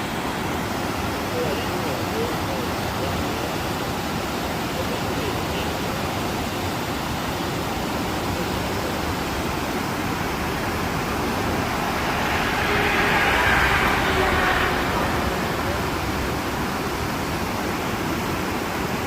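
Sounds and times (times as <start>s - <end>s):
river water flowing over stones: 0.0s - 12.0s, 15.7s - 19.0s.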